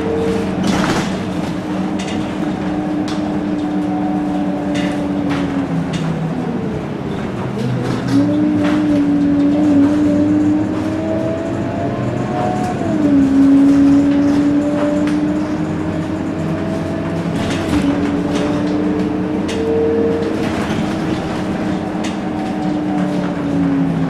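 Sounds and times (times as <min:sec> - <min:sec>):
bus diesel engine running: 0:00.0 - 0:24.0
drivetrain whine: 0:00.0 - 0:24.0.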